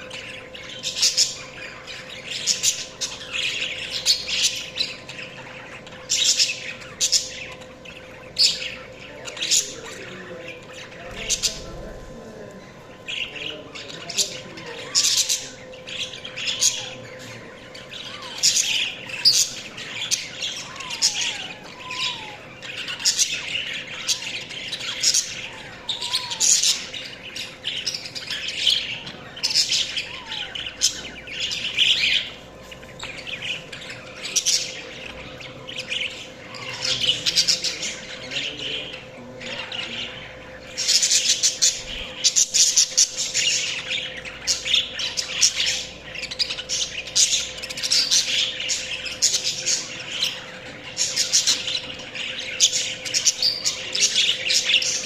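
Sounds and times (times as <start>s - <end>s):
budgies chirping and squawking: 0.0s - 55.0s.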